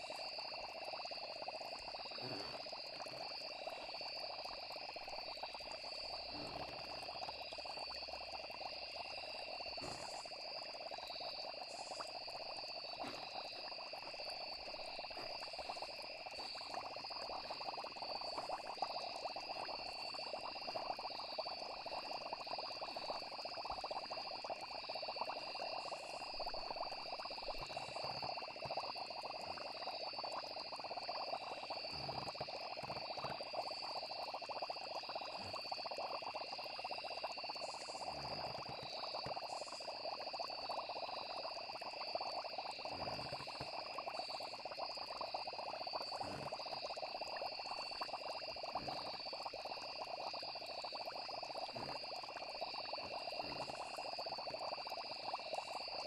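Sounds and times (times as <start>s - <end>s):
crickets chirping: 0.0s - 56.0s
frogs croaking: 0.0s - 56.0s.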